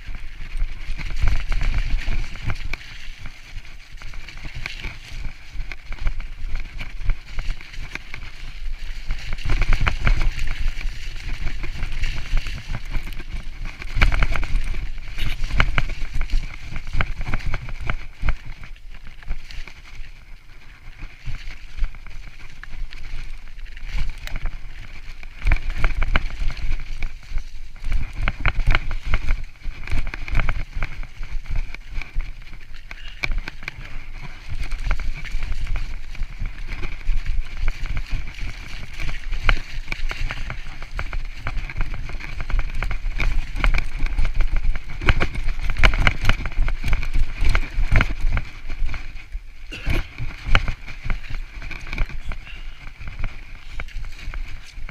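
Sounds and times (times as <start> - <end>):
bike rattling over bumps: 0.0 - 54.9
bike tyre noise: 0.0 - 54.9
wind rushing on camera: 0.0 - 54.9.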